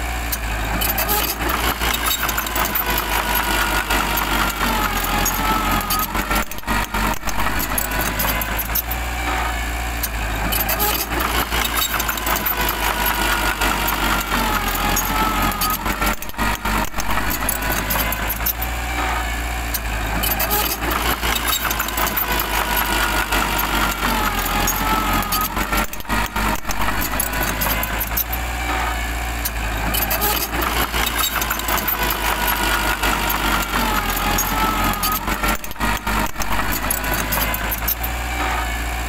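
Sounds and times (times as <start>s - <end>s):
diesel engine low rumble: 0.0s - 39.0s.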